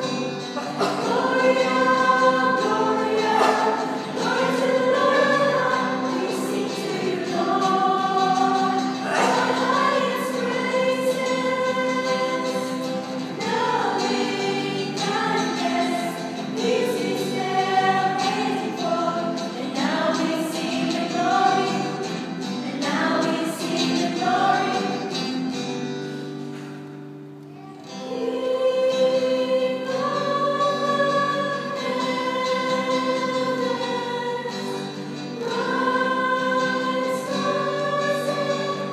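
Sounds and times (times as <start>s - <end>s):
choir singing in harmony: 0.0s - 26.3s, 27.9s - 38.9s.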